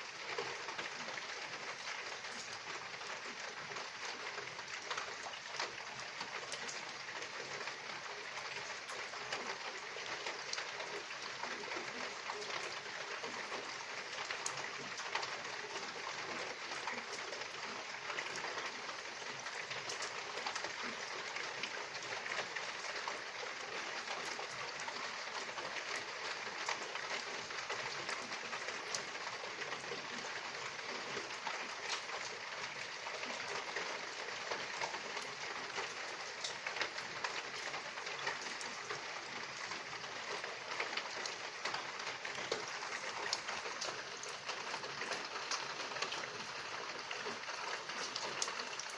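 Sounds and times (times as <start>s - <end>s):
steady rain hiss: 0.0s - 48.9s
raindrops ticking: 0.1s - 48.9s.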